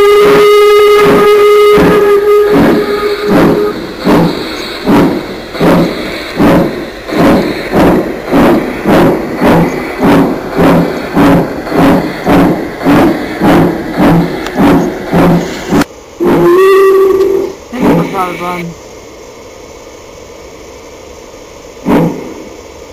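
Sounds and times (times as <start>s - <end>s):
steam locomotive chuffing: 0.0s - 18.8s, 21.7s - 22.9s.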